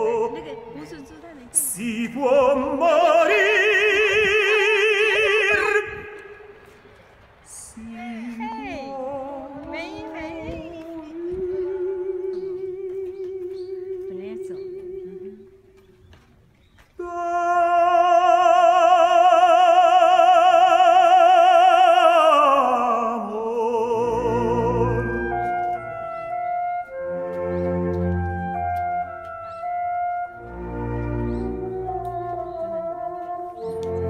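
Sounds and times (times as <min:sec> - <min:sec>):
operatic singing with vibrato: 0:00.0 - 0:15.8, 0:17.0 - 0:29.2, 0:29.9 - 0:34.0.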